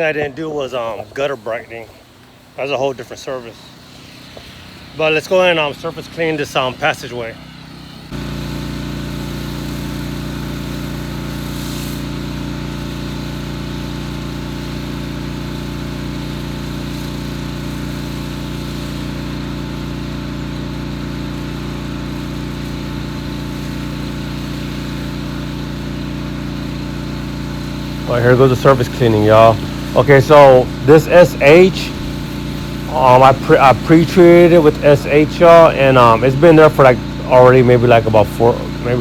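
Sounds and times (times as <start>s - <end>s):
pressure washer engine drone: 0.0s - 39.0s
water spray hiss: 0.6s - 5.8s, 8.1s - 39.0s.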